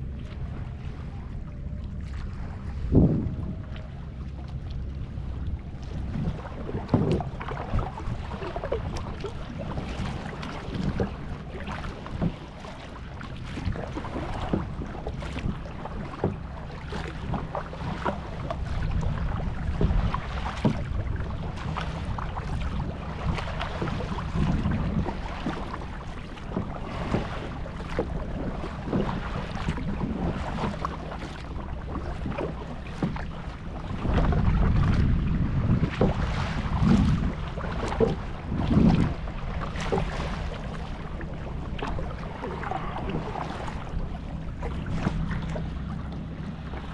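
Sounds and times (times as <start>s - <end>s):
water splashing around kayak: 0.0s - 46.9s
wind rumbling on microphone: 0.0s - 46.9s.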